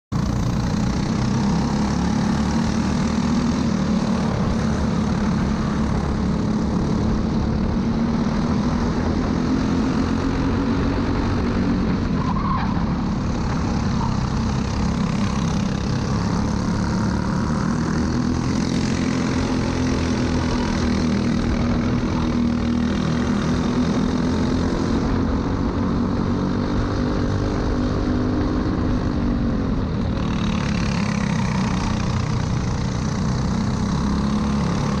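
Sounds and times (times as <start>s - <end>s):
kart engine racing: 0.2s - 35.0s.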